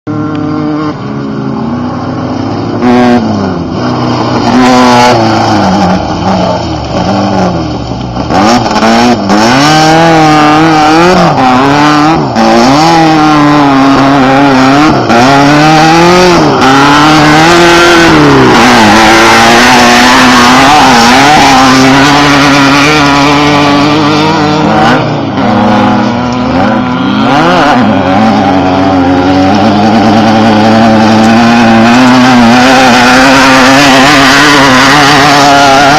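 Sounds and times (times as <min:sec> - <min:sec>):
race car engines revving: 0:00.1 - 0:35.9.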